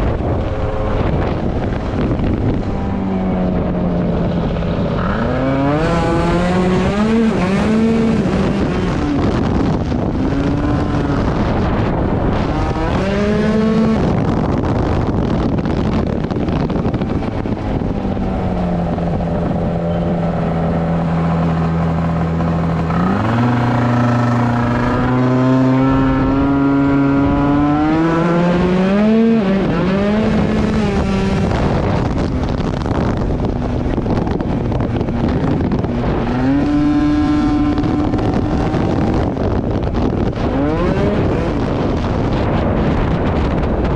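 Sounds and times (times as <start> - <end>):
wind and road noise: 0.0 - 43.9.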